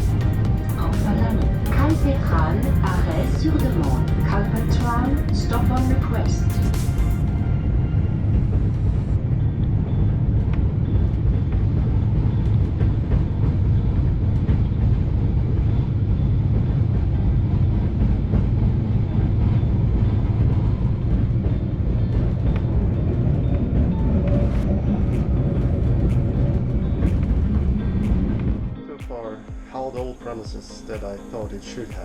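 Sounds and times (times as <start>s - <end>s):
train wheels rumbling on rails: 0.0s - 28.6s.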